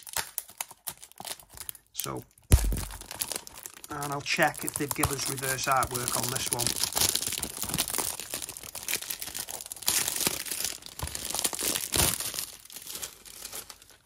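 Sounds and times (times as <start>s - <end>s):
plastic sleeve crinkling: 0.0s - 14.0s.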